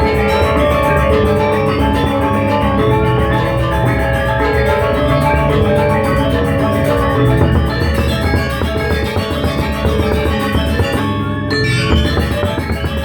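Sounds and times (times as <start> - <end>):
gamelan ensemble playing: 0.0 - 13.0.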